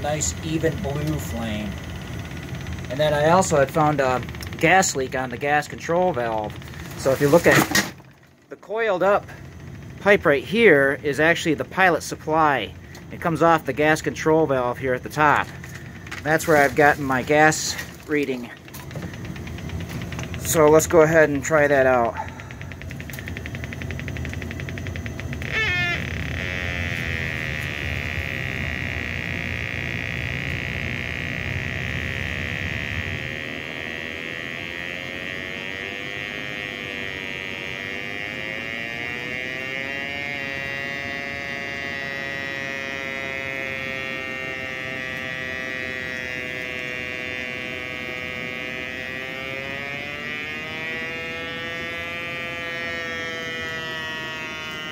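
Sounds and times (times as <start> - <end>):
gas leak detector buzzing: 0.0 - 54.9
low hum: 0.0 - 54.9.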